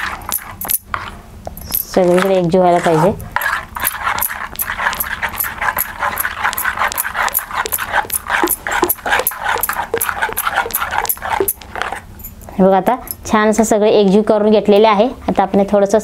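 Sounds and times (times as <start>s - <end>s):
spoon stirring batter in steel bowl: 0.0s - 13.0s.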